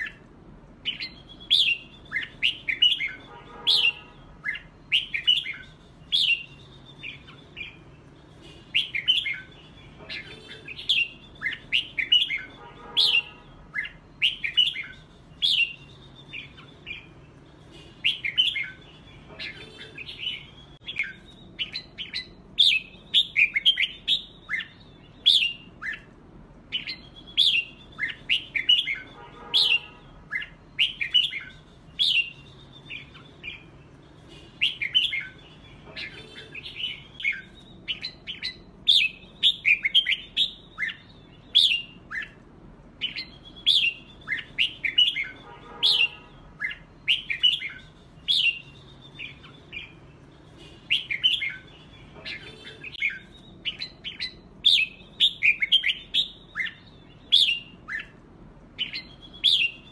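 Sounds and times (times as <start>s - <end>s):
bird chirping song: 0.0s - 59.9s.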